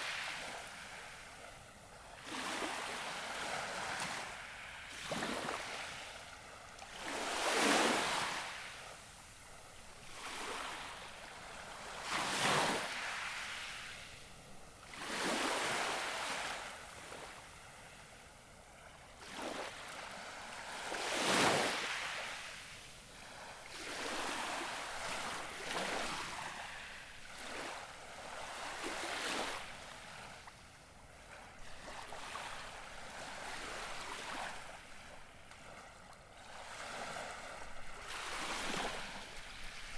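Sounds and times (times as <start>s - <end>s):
gentle waves lapping on shore: 0.0s - 39.9s.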